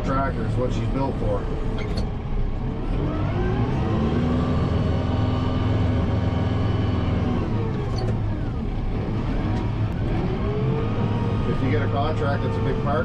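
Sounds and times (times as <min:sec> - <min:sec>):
tractor diesel engine revving: 0:00.0 - 0:13.0.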